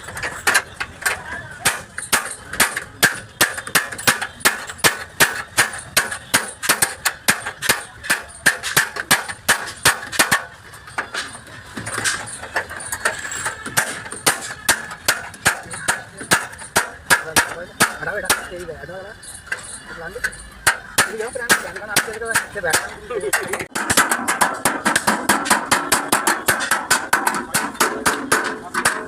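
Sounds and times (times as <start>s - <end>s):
hammer on sheet metal: 0.2s - 11.4s, 12.0s - 18.6s, 20.6s - 29.0s.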